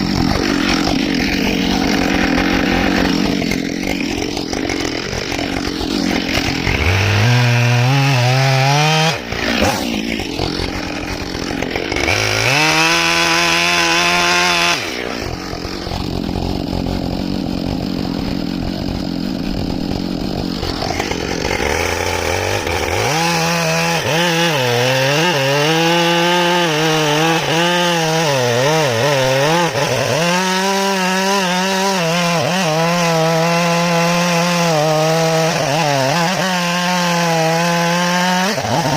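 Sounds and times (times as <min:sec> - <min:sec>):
chainsaw cutting log: 0:00.0 - 0:38.9
chainsaw revving: 0:00.0 - 0:38.9.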